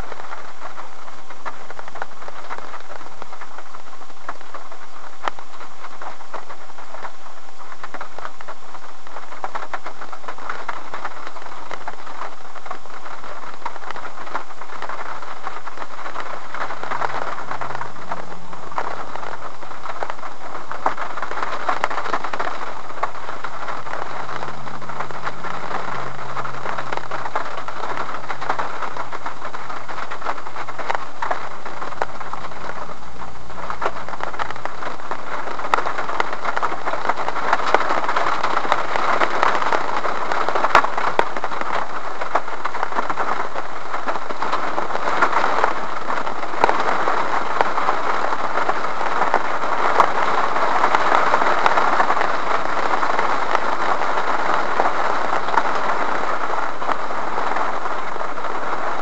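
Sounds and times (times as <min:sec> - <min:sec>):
low steady hum: 0:00.0 - 0:59.0
rain on car windshield: 0:00.0 - 0:59.0.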